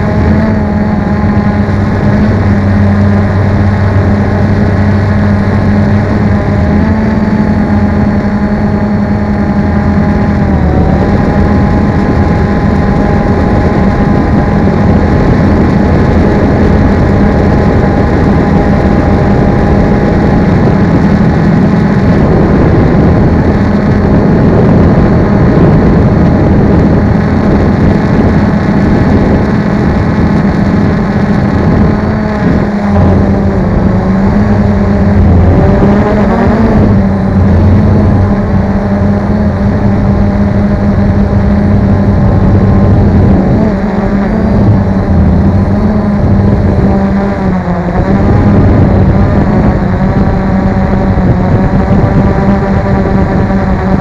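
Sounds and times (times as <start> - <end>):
drone motors and propellers: 0.0 - 54.0.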